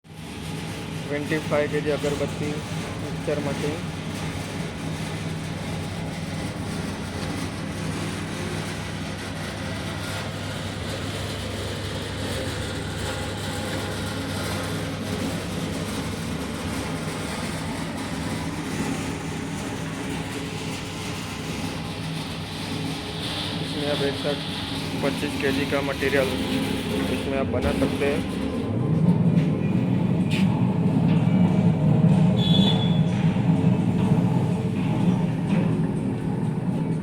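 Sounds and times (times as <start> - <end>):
mixer machine humming and rumbling: 0.0 - 37.0.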